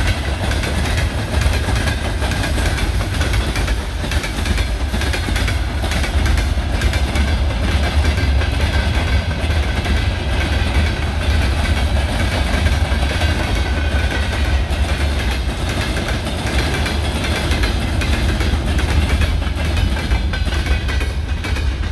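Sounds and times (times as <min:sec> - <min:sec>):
freight train rumbling: 0:00.0 - 0:21.9
wagon wheels clattering on rails: 0:00.0 - 0:21.9.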